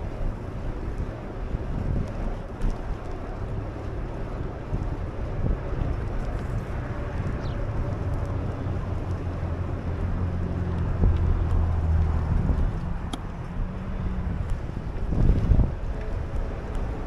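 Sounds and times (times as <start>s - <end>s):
low hum of ride: 0.0s - 17.0s
wind buffeting microphone: 0.0s - 17.0s.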